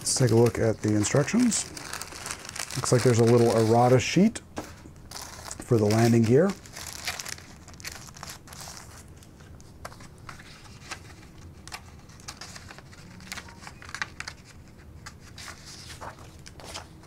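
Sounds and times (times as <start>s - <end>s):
paper sheets rustling: 0.0s - 17.0s.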